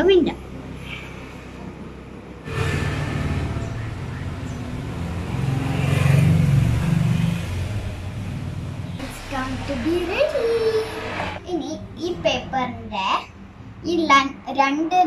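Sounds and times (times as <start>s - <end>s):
vehicle engine rumbling: 0.0s - 13.8s.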